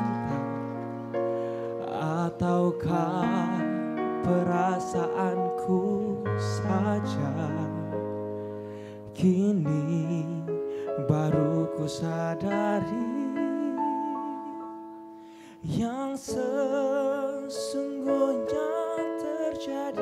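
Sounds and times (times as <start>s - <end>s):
man singing into a microphone: 0.0s - 8.3s, 8.9s - 14.8s, 15.6s - 20.0s
held keyboard chords: 0.0s - 20.0s.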